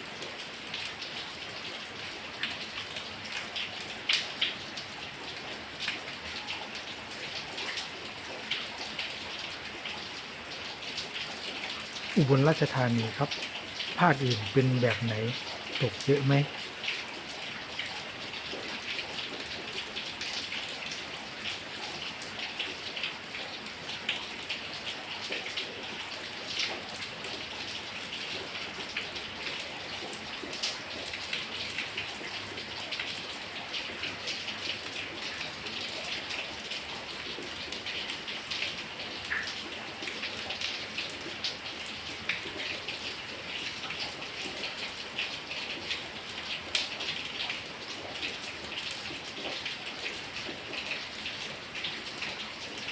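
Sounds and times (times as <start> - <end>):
heavy rain: 0.0 - 52.9
raindrops ticking close by: 0.0 - 52.9.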